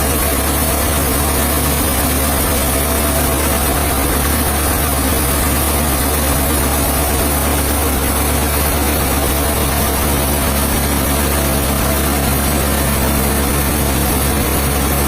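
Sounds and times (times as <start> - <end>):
sawmill machinery humming: 0.0 - 15.0.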